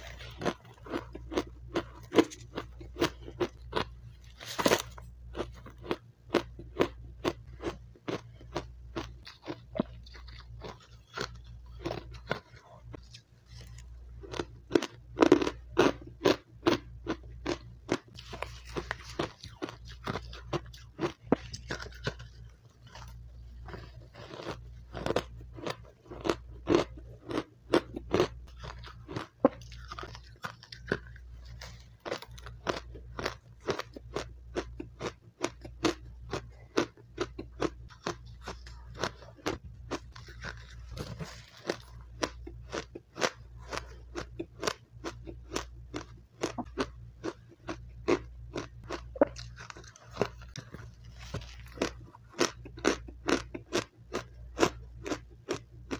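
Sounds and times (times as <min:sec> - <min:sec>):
crunching ice while chewing: 0:00.0 - 0:55.9.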